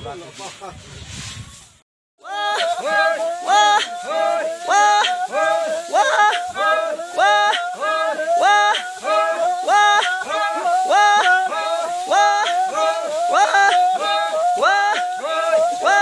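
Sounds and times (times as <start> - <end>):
men chanting a work chant: 2.2 - 16.0.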